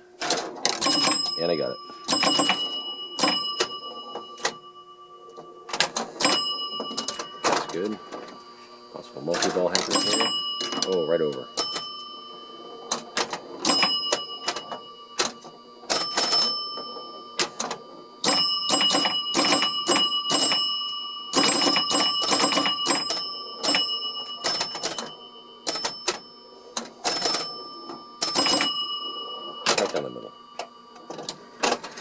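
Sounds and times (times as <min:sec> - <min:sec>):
pinball bells ringing: 0:00.0 - 0:32.0
pinball machine rapid clicking: 0:00.2 - 0:04.6, 0:05.7 - 0:08.4, 0:09.2 - 0:12.1, 0:12.8 - 0:32.0.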